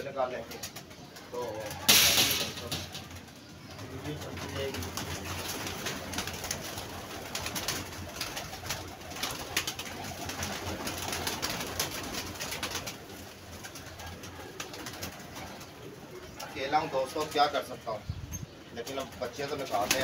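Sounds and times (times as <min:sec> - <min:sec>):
pigeons cooing: 0:00.0 - 0:20.0
wings flapping: 0:00.3 - 0:17.6, 0:18.8 - 0:20.0.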